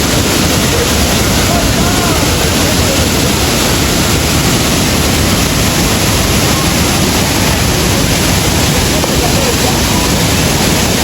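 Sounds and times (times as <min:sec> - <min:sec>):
steady loud rushing noise: 0:00.0 - 0:11.0.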